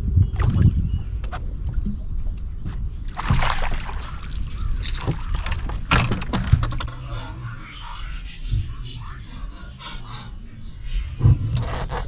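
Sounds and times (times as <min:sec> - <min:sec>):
low rumble: 0:00.0 - 0:12.0
water splashing against boat: 0:00.2 - 0:12.0.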